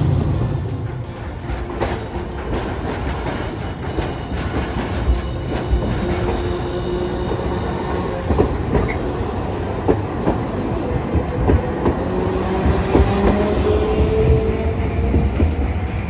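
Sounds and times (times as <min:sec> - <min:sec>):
tram low rumble: 0:00.0 - 0:16.0
tram wheels clicking over rails: 0:00.0 - 0:16.0.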